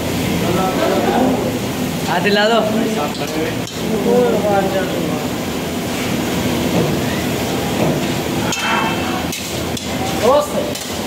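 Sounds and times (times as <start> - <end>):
gas burners and exhaust fans: 0.0 - 11.0.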